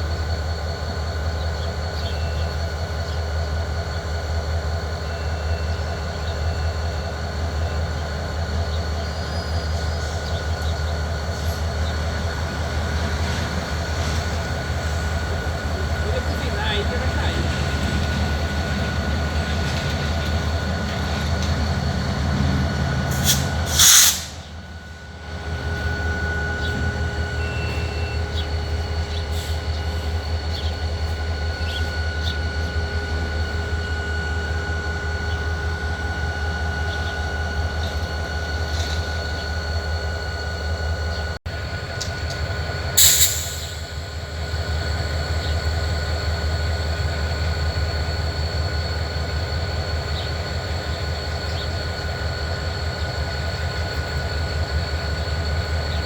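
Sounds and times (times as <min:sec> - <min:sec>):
diesel locomotive engine rumbling: 0:00.0 - 0:56.0.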